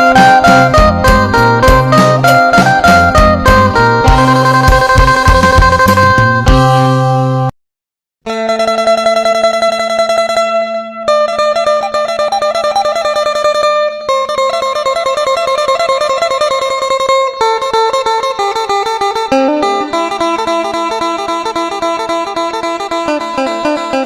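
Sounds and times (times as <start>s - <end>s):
plucked lute melody: 0.0s - 7.5s, 8.3s - 24.0s.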